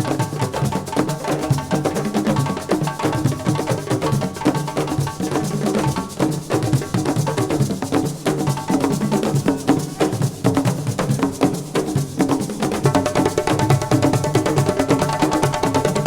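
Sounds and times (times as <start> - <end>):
fast percussion with clicking strokes: 0.0 - 16.0
steady drum beat: 0.0 - 16.0.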